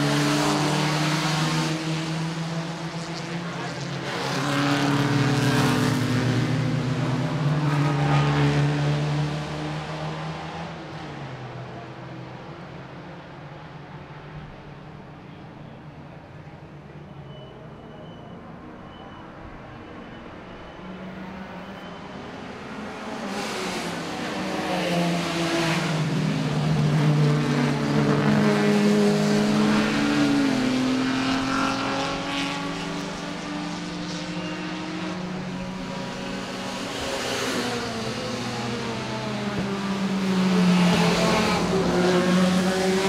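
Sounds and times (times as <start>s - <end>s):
racing car engines revving: 0.0s - 14.4s, 19.9s - 43.0s.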